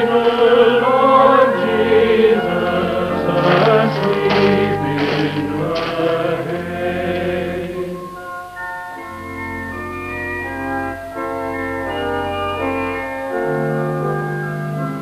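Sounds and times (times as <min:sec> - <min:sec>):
organ chords over held bass: 0:00.0 - 0:15.0.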